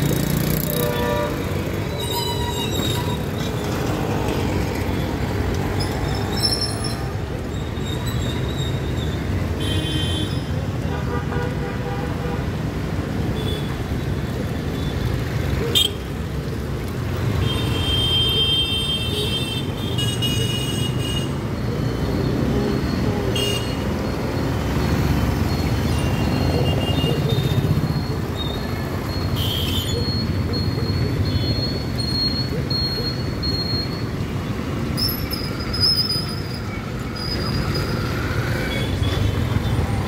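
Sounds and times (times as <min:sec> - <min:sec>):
motorcycle and scooter engines rumbling: 0:00.0 - 0:40.0.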